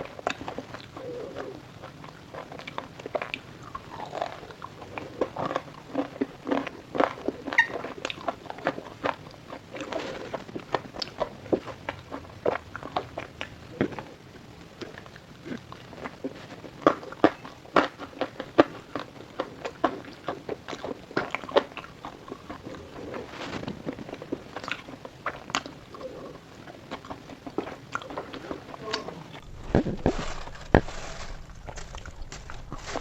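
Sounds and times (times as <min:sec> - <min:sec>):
chewing crispy fried food: 0:00.0 - 0:33.0.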